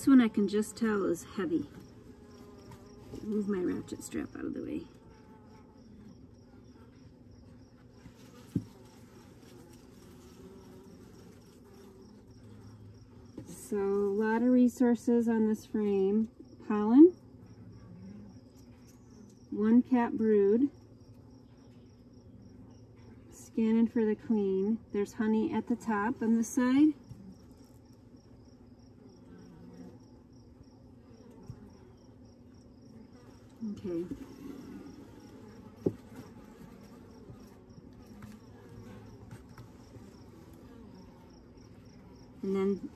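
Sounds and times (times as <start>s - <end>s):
honeybees buzzing: 0.0s - 42.9s.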